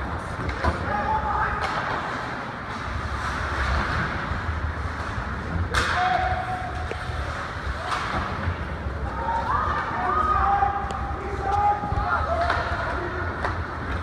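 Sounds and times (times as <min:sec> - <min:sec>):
skating and arena rumble: 0:00.0 - 0:14.0.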